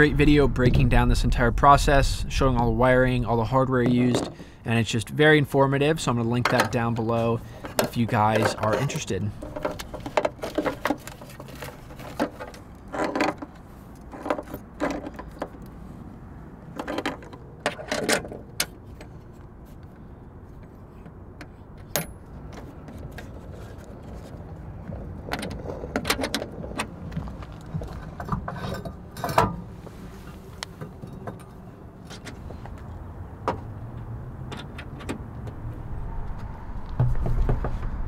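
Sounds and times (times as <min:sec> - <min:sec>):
low steady background noise: 0:00.0 - 0:38.0.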